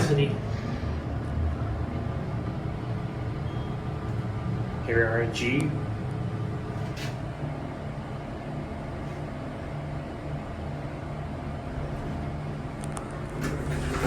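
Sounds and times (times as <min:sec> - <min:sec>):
elevator machinery hum: 0:00.0 - 0:14.0.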